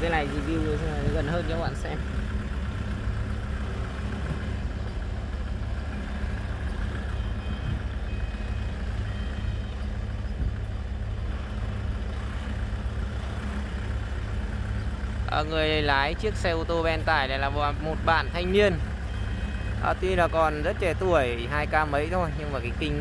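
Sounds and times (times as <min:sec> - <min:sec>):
dump truck diesel engine: 0:00.0 - 0:23.0.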